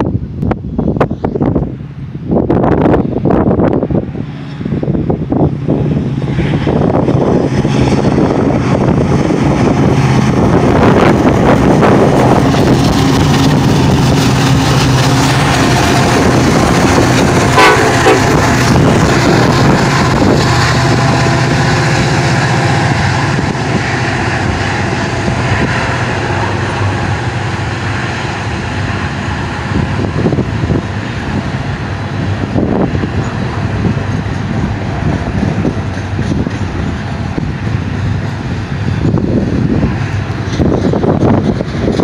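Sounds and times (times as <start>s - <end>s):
diesel locomotive engine hum: 0.0s - 42.0s
train wheels rumbling on rails: 0.0s - 42.0s.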